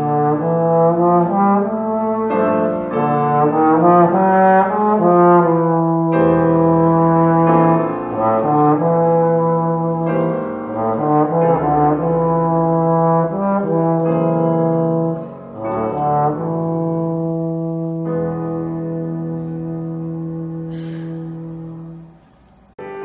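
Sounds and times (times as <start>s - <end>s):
grand piano accompaniment: 0.0s - 23.0s
trombone playing classical melody: 0.0s - 23.0s.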